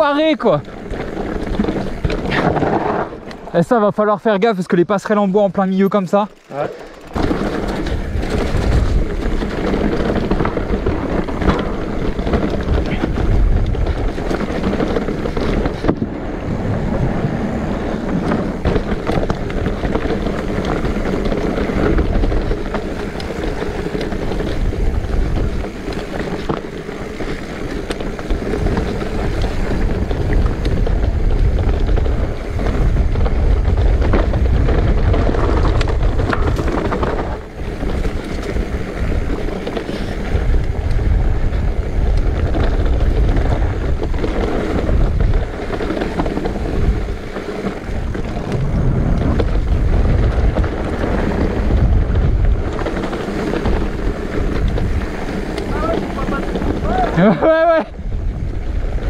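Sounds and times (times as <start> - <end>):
tyre noise: 0.0 - 4.2, 5.0 - 59.0
bike rattling over bumps: 0.0 - 59.0
wind over microphone: 0.0 - 59.0.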